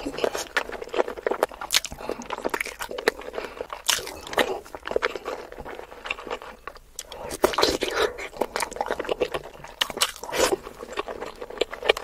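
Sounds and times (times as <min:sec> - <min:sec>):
wet chewing with mouth smacks: 0:00.0 - 0:12.0.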